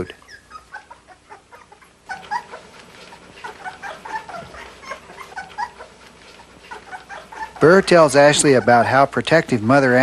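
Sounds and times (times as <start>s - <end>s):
puppies whimpering and squeaking: 0.0s - 10.0s.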